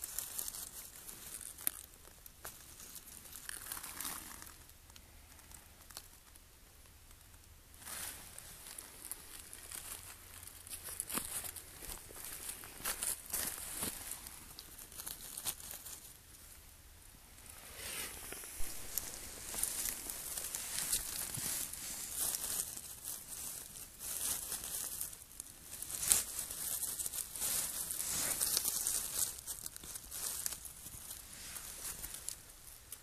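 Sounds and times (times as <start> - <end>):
dry leaves and twigs crackling: 0.0 - 33.0.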